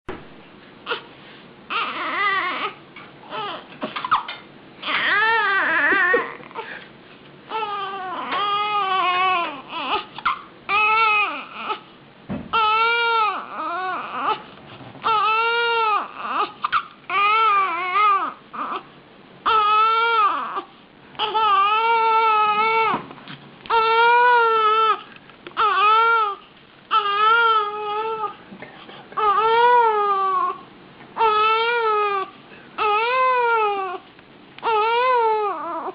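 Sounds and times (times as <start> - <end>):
baby crying: 1.7 - 6.8, 7.5 - 11.9, 12.5 - 23.0, 23.7 - 28.4, 29.2 - 30.6, 31.2 - 34.0, 34.6 - 35.9.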